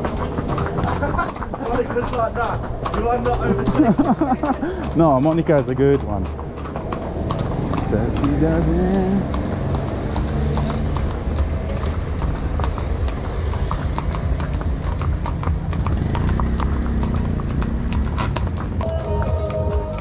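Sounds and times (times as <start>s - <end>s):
horse hooves on stone street: 0.0s - 20.0s.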